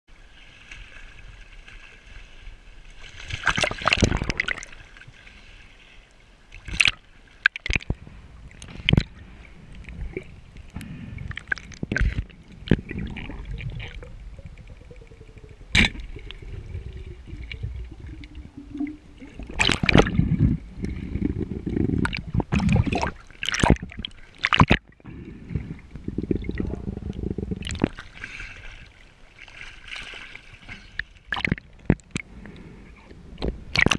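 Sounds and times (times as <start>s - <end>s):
water sloshing and gurgling: 0.1s - 33.9s
water splashes: 0.1s - 33.9s.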